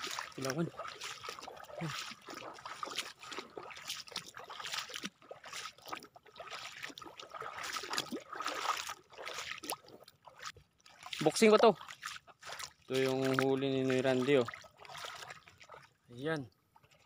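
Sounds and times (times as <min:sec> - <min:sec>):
water splashing around feet: 0:00.0 - 0:17.0.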